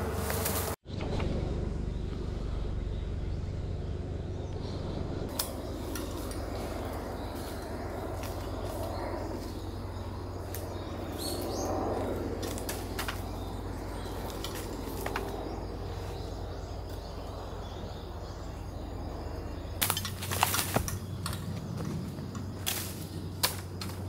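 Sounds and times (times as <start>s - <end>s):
steady low hum: 0.0s - 24.0s
bird chirp: 1.4s - 23.8s.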